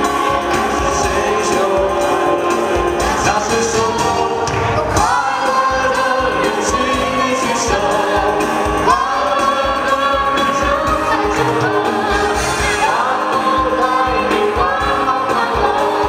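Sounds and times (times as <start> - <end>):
backing music with beat: 0.0 - 16.0
group singing into microphones: 0.0 - 16.0.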